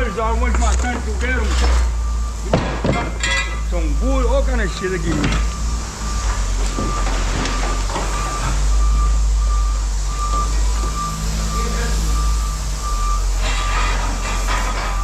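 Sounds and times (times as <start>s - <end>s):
backup alarm beeping: 0.0s - 15.0s
heavy vehicle engine rumbling: 0.0s - 15.0s.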